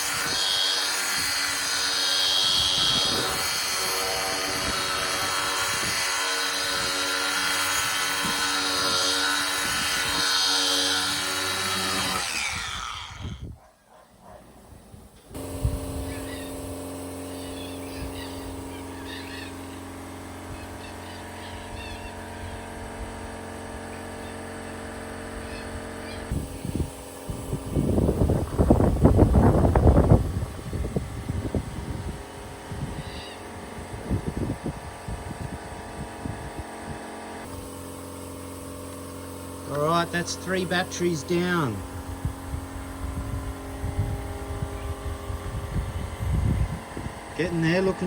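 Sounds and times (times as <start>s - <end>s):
power sander running: 0.0s - 13.6s, 15.3s - 48.0s.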